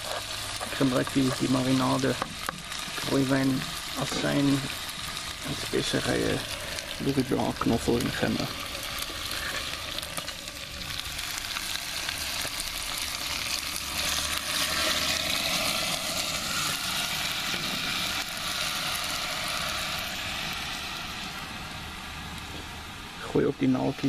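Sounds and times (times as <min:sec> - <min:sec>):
liquid sizzling in hot pot: 0:00.0 - 0:24.0.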